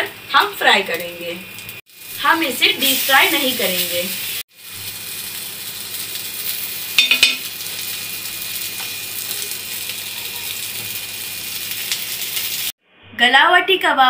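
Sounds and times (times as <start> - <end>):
food sizzling on a griddle: 0.4 - 12.8.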